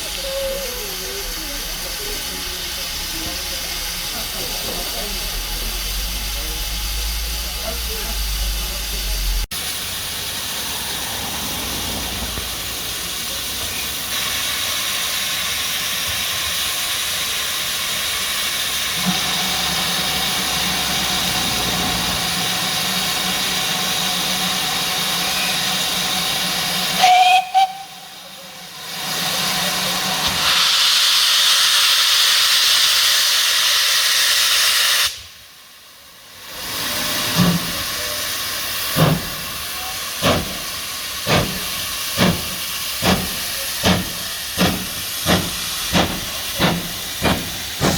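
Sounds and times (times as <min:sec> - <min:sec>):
steam hissing: 0:00.0 - 0:47.9.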